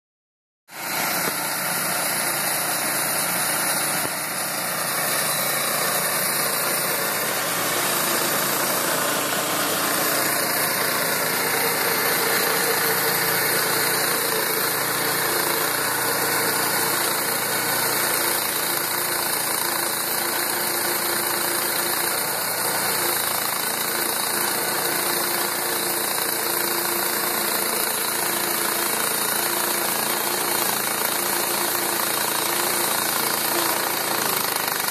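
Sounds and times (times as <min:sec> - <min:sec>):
bandsaw mill sawing log: 0:00.7 - 0:34.9.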